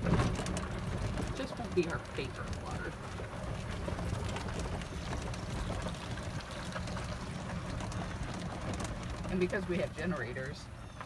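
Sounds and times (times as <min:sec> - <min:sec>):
slow vehicle low rumble: 0:00.0 - 0:11.0.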